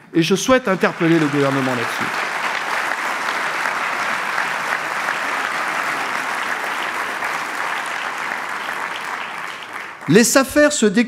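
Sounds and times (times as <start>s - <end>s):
audience applauding: 0.4s - 10.7s.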